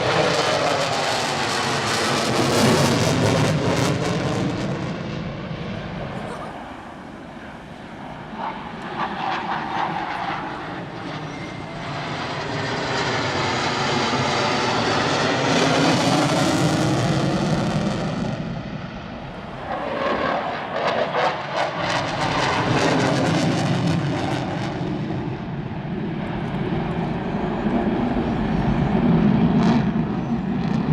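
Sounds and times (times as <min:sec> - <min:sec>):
jet engines passing: 0:00.0 - 0:30.9.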